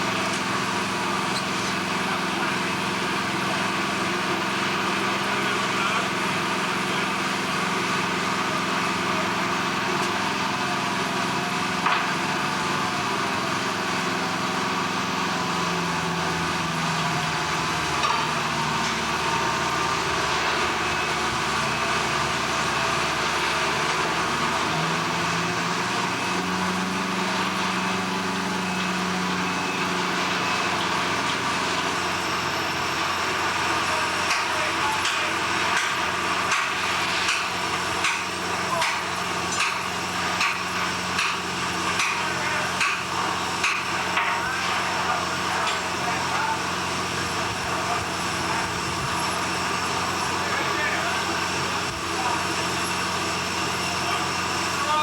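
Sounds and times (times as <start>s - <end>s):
engine-driven machinery running: 0.0s - 55.0s
industrial din: 0.0s - 55.0s.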